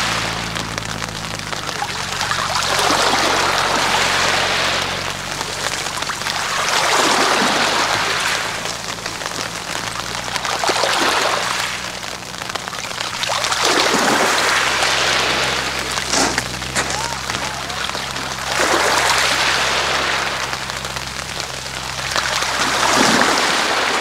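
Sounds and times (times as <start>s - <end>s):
waves washing on pebble beach: 0.0s - 24.0s.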